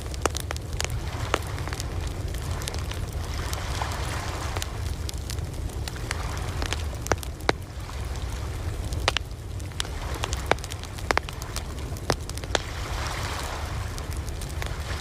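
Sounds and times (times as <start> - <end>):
campfire crackling and popping: 0.0 - 15.0
ocean waves: 0.0 - 15.0
steady low rumble: 0.0 - 15.0.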